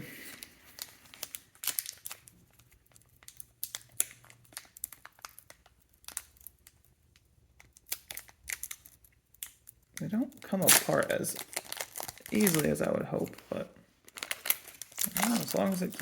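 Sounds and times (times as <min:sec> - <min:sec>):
foil wrapper crinkling: 0:00.3 - 0:16.0.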